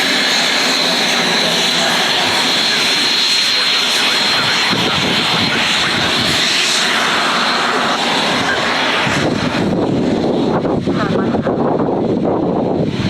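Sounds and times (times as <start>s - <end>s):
jet airliner engines passing: 0.0s - 13.0s.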